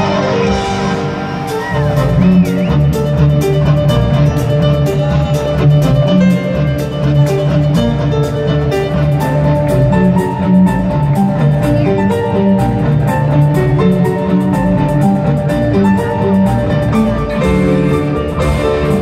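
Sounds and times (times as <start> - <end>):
amplified drums: 0.0 - 19.0
bass pulsing: 0.0 - 19.0
held melody notes: 0.0 - 19.0.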